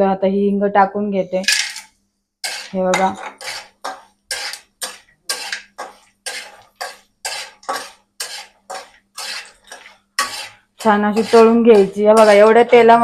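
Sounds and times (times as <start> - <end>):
metal spatula scraping a pan: 1.4 - 13.0
spices frying in oil: 2.4 - 13.0.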